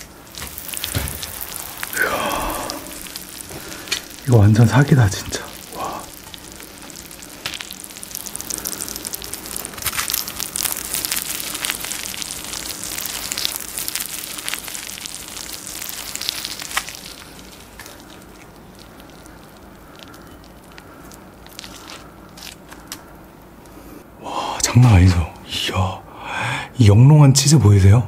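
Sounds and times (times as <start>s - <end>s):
cheese sizzling and crackling: 0.0s - 24.0s.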